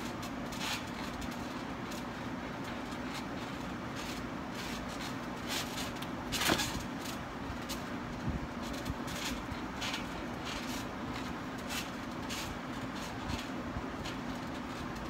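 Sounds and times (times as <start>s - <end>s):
air conditioner humming: 0.0s - 15.0s
trampoline springs creaking: 0.0s - 15.0s.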